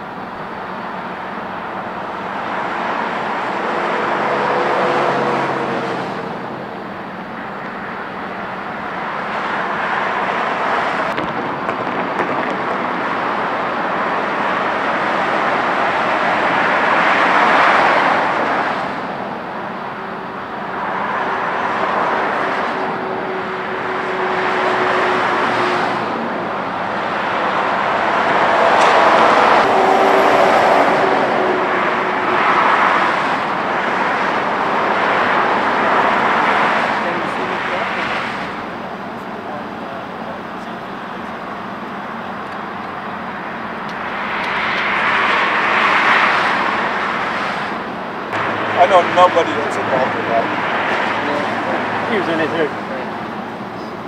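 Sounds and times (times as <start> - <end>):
cars passing on freeway: 0.0 - 54.0.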